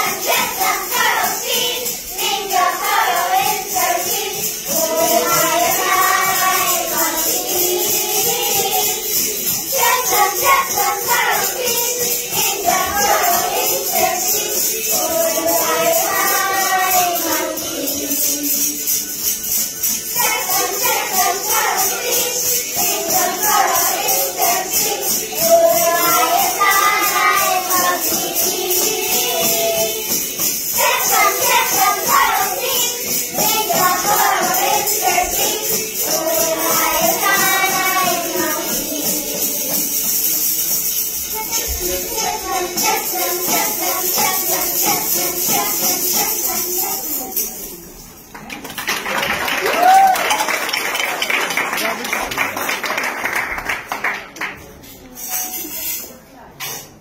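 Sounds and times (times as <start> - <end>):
children singing in unison: 0.0 - 40.6, 41.3 - 47.6
rhythmic high jingling: 0.0 - 48.3.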